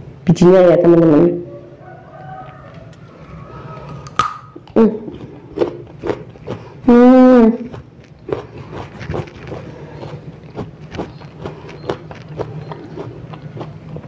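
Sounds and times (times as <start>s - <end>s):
crunchy fruit chewing: 2.4s - 14.0s.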